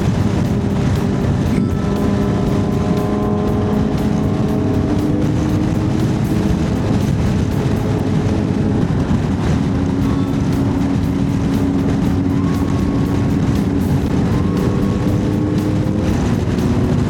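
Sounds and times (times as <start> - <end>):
motorcycle engine running: 0.0 - 17.0
wind rumble: 0.0 - 17.0.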